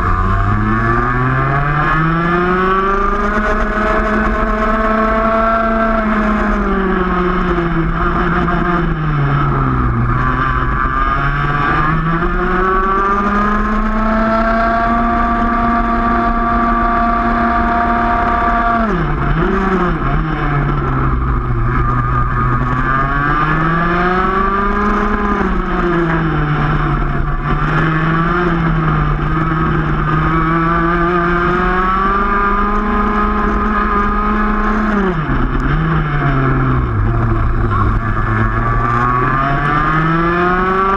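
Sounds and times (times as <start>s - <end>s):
kart engine at race pace: 0.0s - 40.9s.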